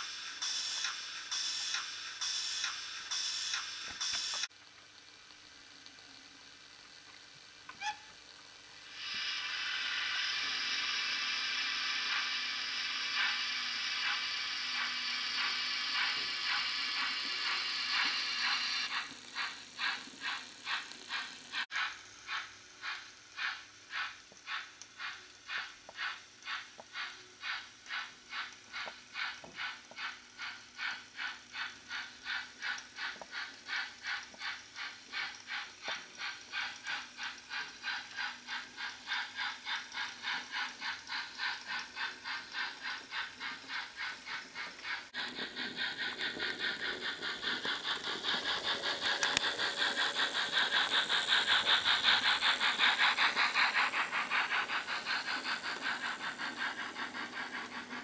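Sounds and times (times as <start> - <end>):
model steam locomotive chuffing: 0.0 - 5.1, 5.8 - 58.0
steam hiss: 0.0 - 58.0.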